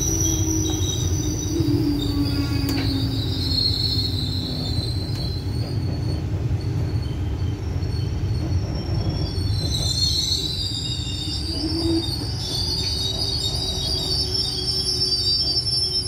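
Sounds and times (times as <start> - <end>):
high-pitched wheel squeal: 0.0 - 16.0
train wheels rumbling on rails: 0.0 - 16.0.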